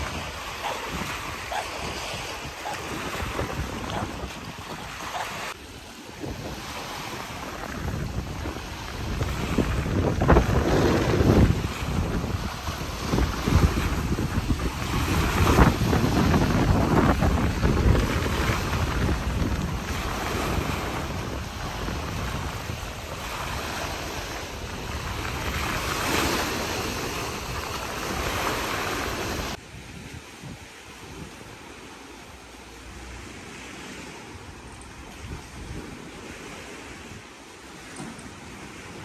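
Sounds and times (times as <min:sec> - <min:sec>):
wind buffeting microphone: 0:00.0 - 0:31.9, 0:33.8 - 0:39.0
small waves breaking on shore: 0:00.0 - 0:39.0.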